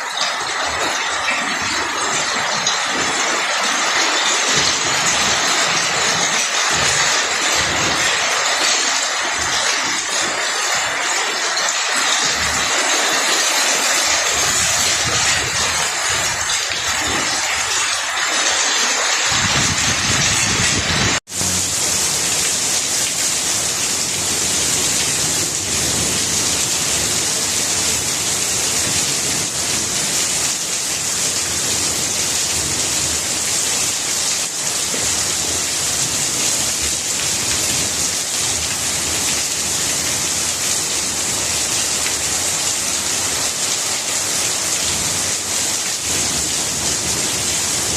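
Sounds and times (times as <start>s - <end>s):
rain falling on leaves: 0.0s - 47.9s.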